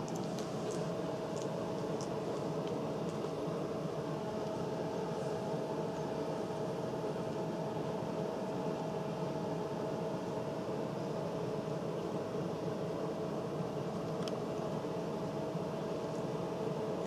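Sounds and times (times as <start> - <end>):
mechanical hum with tone: 0.0 - 17.0.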